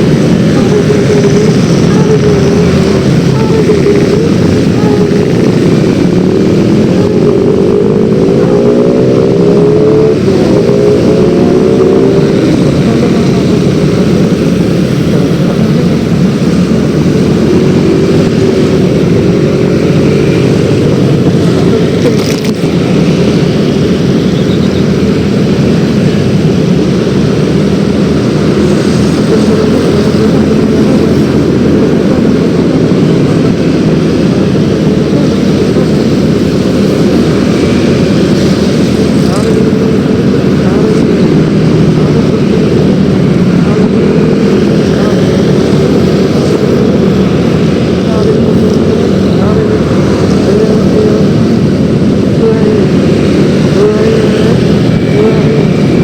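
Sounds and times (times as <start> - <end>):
scooter engine running: 0.0 - 56.0
wind and road noise: 0.0 - 56.0.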